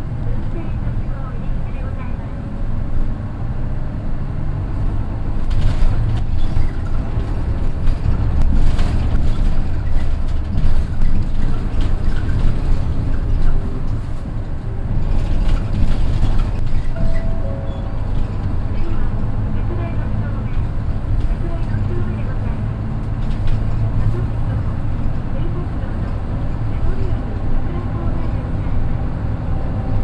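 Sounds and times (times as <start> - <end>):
diesel bus engine drone: 0.0 - 30.0.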